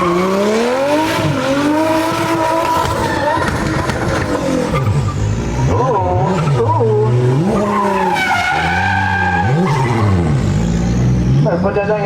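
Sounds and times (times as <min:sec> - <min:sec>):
tires skidding: 0:00.0 - 0:11.5
car engine revving: 0:00.0 - 0:12.0.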